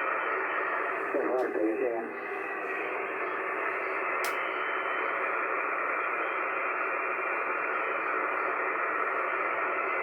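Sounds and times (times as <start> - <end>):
shortwave receiver hiss: 0.0 - 10.0.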